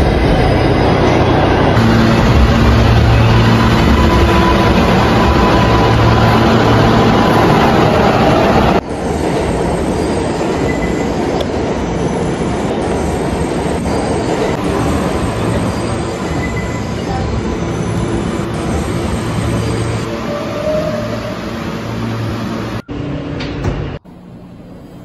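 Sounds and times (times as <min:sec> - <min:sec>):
subway train rumbling on rails: 0:00.0 - 0:25.0.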